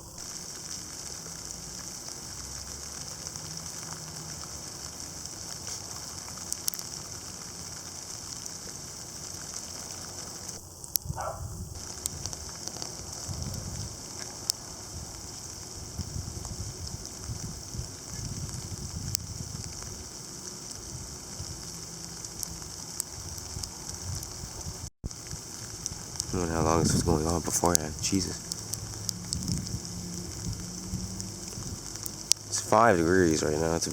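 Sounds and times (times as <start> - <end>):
ice pellets ticking: 0.0 - 33.9
sleet hissing: 0.0 - 33.9.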